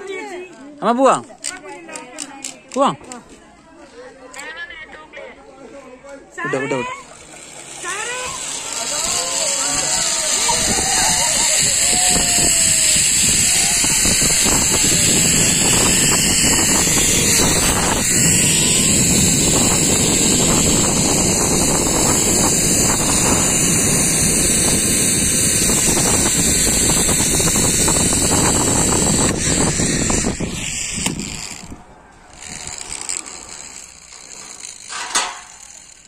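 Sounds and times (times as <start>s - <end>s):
zipline pulleys whirring on cable: 6.3s - 36.0s.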